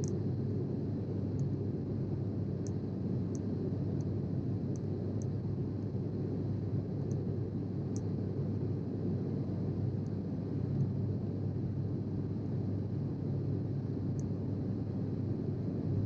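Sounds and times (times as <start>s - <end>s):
airplane cabin engine rush: 0.0s - 16.0s.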